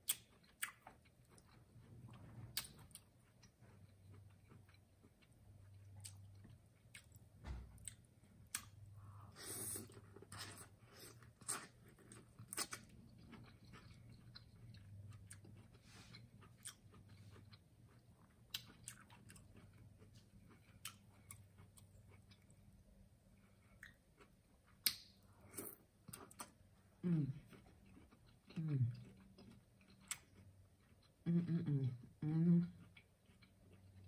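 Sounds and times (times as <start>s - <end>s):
close chewing mouth sounds: 0.0s - 22.8s, 23.4s - 34.0s
faint low hum: 0.0s - 34.0s.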